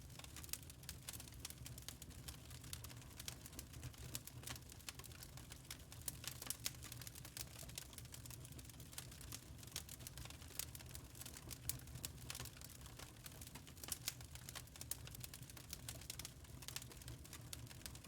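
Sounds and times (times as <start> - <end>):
wood fire crackling: 0.1 - 18.0.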